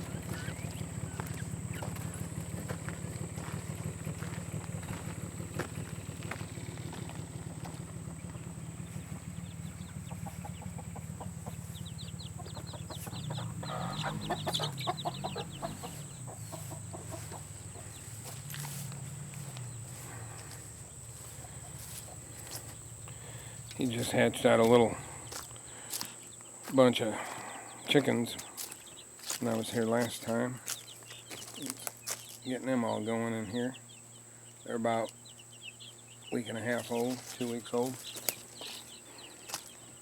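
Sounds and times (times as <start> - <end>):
chicks peeping and clucking: 0.0 - 40.0
steady low hum: 0.0 - 40.0.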